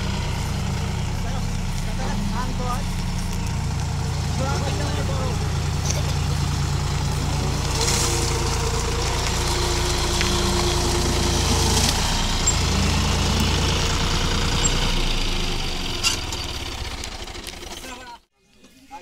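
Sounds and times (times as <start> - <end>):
tractor diesel engine under load: 0.0 - 18.3.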